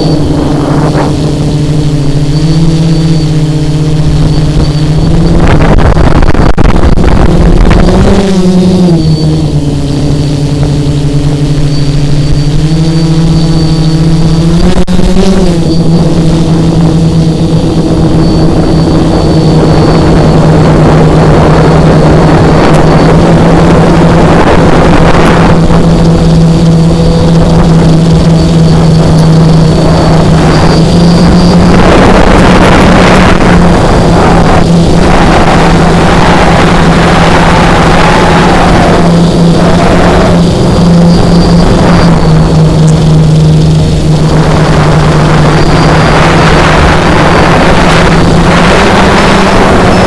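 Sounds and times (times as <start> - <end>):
drone motors humming: 0.0 - 50.0
propeller wash and wind noise: 0.0 - 50.0.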